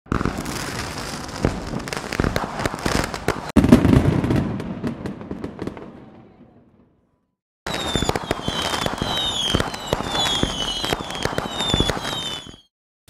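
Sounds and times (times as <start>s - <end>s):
fireworks crackling and popping: 0.1s - 6.0s, 7.7s - 12.7s.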